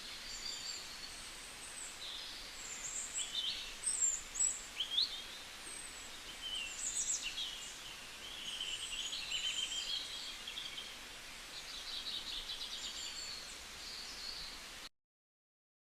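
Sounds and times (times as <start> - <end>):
songbirds chirping and trilling: 0.0 - 14.9
steady outdoor noise: 0.0 - 14.9.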